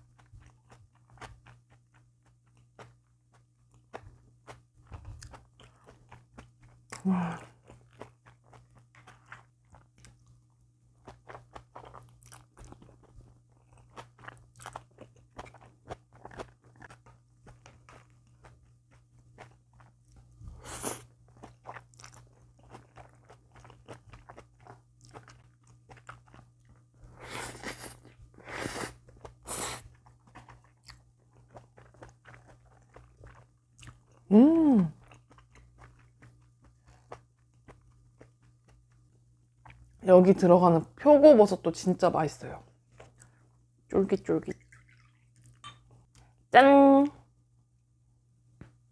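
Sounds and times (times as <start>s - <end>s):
chewing and crunching food: 0.0s - 41.0s, 41.6s - 46.5s.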